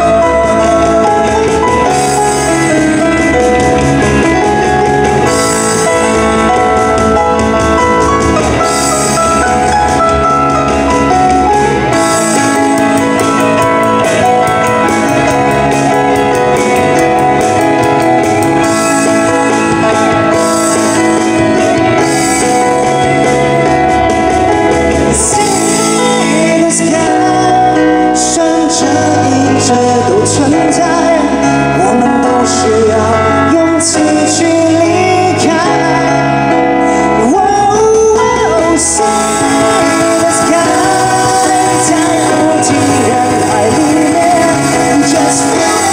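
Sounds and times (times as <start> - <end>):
man singing into a microphone: 0.0 - 23.9, 25.0 - 45.9
live pop band: 0.0 - 45.9.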